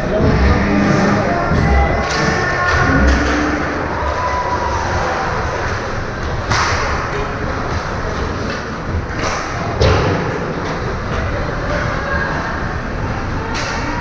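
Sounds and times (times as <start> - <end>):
ice rink noise: 0.0 - 14.0.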